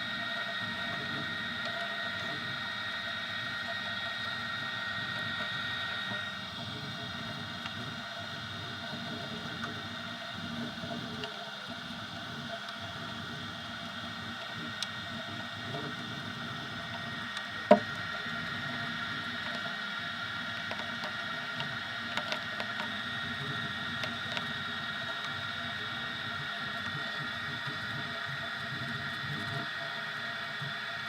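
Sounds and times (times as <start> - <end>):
printer stepper motor whine: 0.0 - 31.0.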